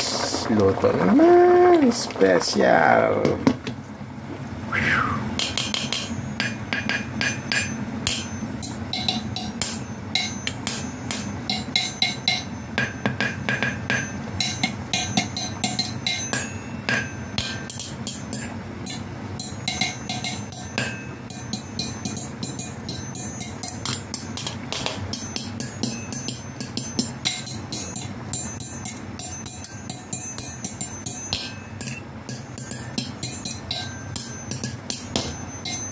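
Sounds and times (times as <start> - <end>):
steady low hum: 0.0 - 35.9
fork clinking on metal pot: 5.4 - 35.9.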